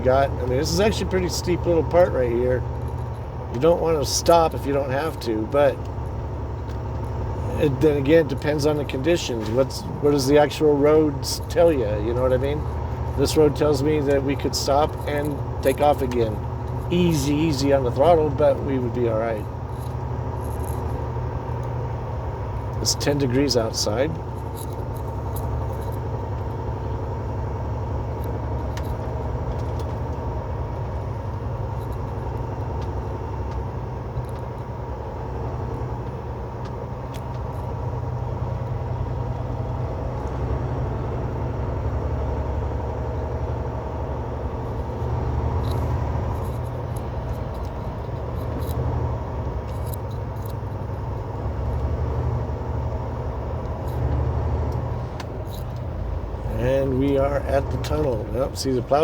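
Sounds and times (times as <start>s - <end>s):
road noise: 0.0s - 59.0s
truck diesel engine rumbling: 0.0s - 59.0s.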